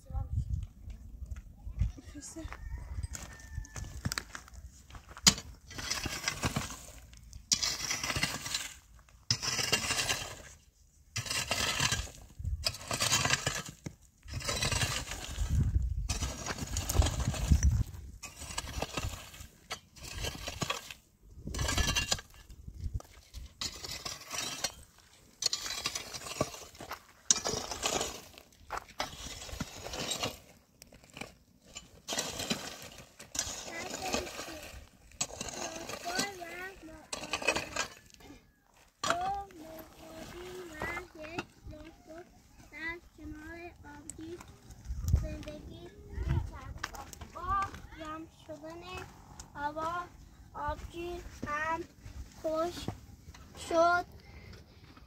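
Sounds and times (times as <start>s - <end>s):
shovel scraping gravel: 4.3s - 54.1s.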